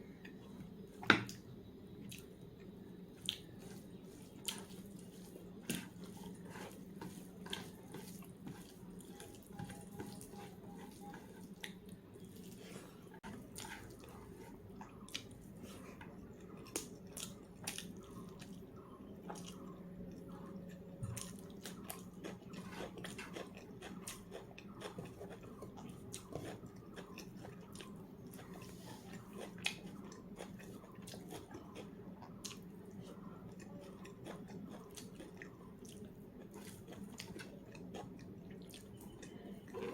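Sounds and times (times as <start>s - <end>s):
steady low hum: 0.0s - 39.9s
chewing and mouth smacks: 2.0s - 12.6s, 14.8s - 15.4s, 16.0s - 39.9s.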